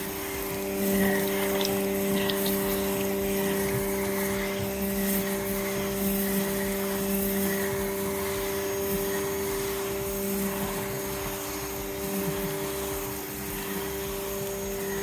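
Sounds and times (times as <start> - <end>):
pressure washer motor humming: 0.0 - 15.0
water jet hissing: 0.0 - 15.0.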